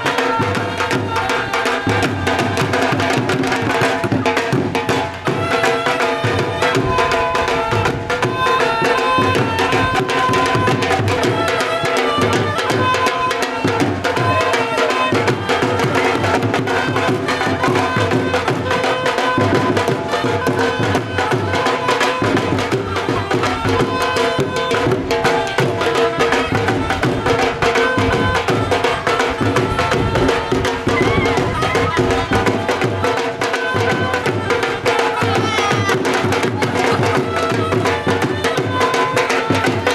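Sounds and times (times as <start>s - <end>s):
dhol drums playing: 0.0s - 39.9s.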